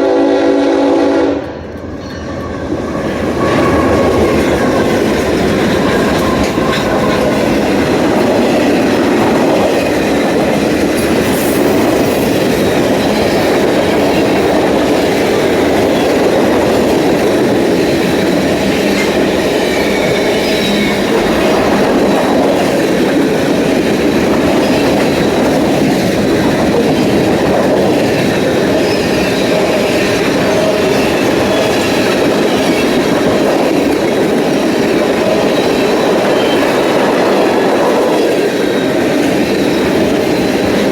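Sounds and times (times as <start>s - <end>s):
freight train cars rolling on rails: 0.0s - 40.9s.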